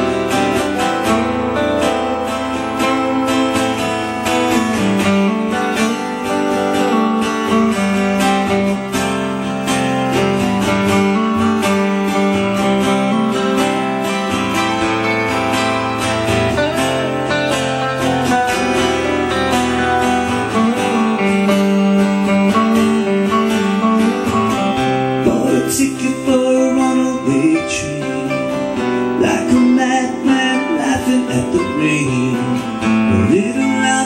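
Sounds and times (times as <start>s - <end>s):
acoustic guitar strummed: 0.0s - 34.0s
electric guitar playing: 0.0s - 34.0s.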